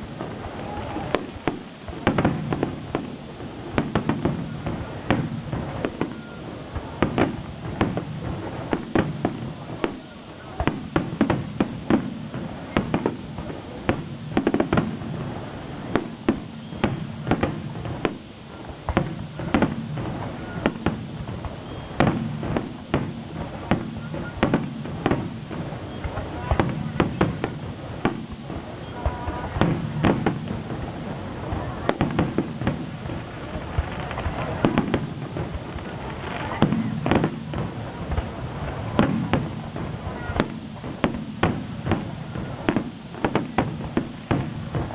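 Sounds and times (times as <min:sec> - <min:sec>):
fireworks bangs: 0:00.0 - 0:44.9
fireworks crackling: 0:00.0 - 0:44.9.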